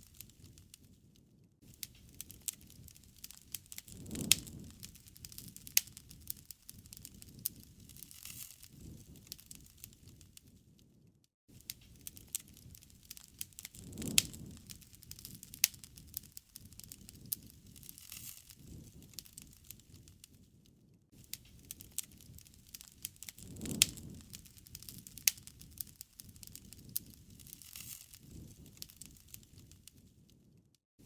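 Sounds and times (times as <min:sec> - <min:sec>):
wood fire crackling: 0:00.0 - 0:30.7.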